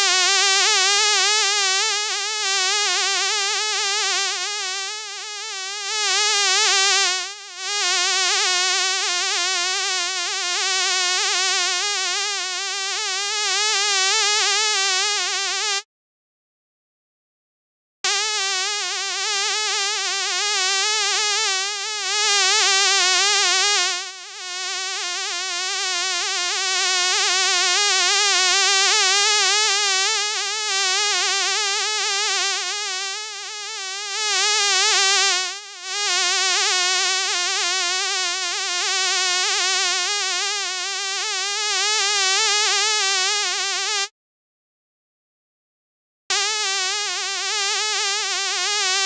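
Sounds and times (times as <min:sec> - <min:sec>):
fly buzzing: 0:00.0 - 0:15.8, 0:18.1 - 0:44.1, 0:46.3 - 0:49.0.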